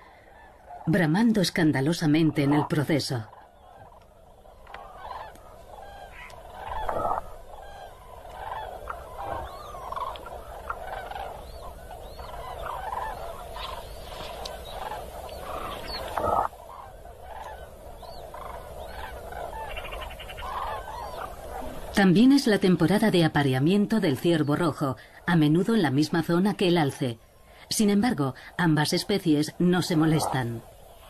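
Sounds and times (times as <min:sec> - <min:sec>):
flock of cranes calling: 0:00.0 - 0:31.0
moose calling: 0:00.0 - 0:31.0.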